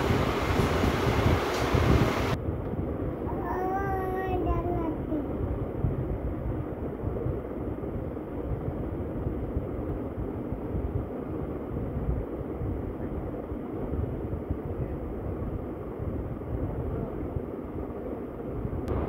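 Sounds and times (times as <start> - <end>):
steady low rumbling: 0.0 - 19.0.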